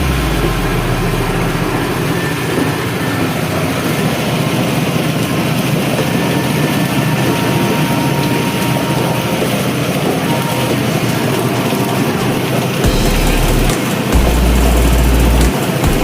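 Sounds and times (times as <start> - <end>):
low hum: 0.0 - 16.0
small petrol engine running: 0.0 - 16.0.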